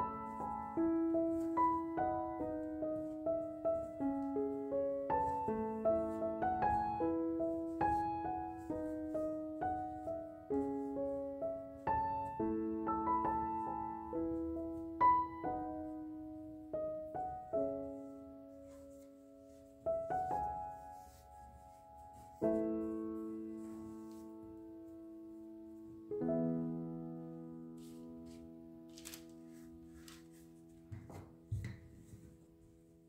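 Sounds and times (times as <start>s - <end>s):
gentle solo piano: 0.0s - 33.0s.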